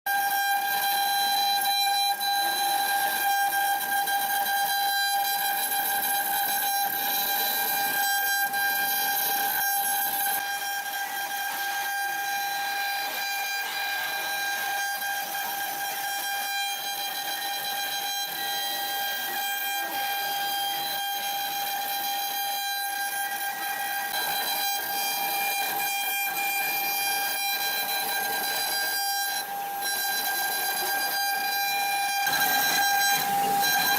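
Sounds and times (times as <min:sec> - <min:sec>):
machine spindle whine: 0:00.1 - 0:33.9.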